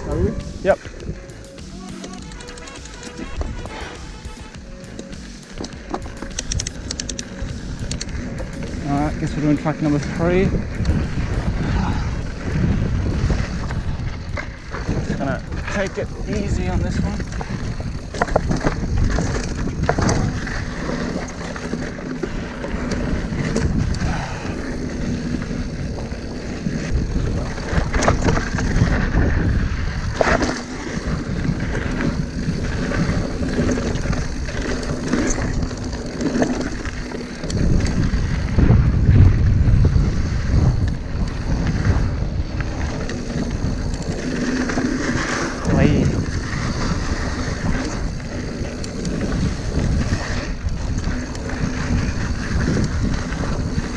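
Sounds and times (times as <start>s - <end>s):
bike knocking and rattling: 0.0s - 53.9s
bike tyres rumbling over dirt: 0.0s - 53.9s
wind buffeting microphone: 0.0s - 53.9s.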